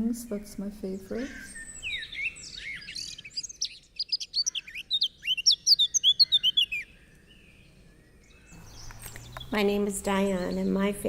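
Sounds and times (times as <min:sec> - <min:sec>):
songbird chirping and trilling: 0:00.0 - 0:11.0.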